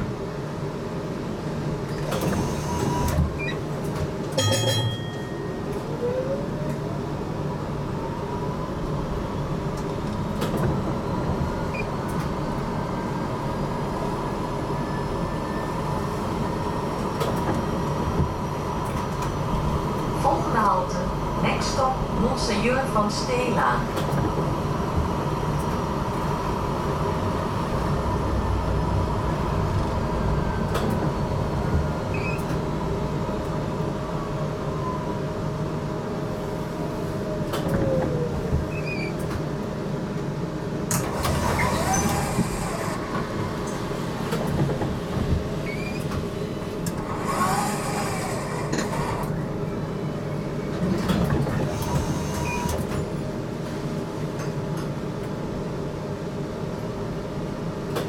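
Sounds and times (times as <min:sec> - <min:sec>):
tram motor whine: 0:00.0 - 0:53.6.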